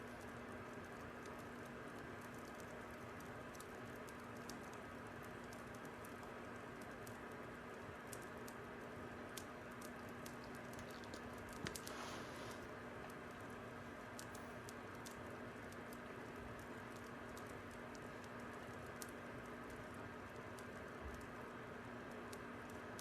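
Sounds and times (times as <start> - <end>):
faint steady hum: 0.0 - 23.0
fire crackling and popping: 0.0 - 23.0.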